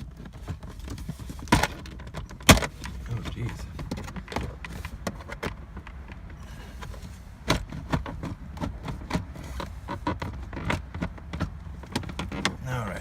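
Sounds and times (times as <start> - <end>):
plastic trim clicking and scraping: 0.0 - 12.7.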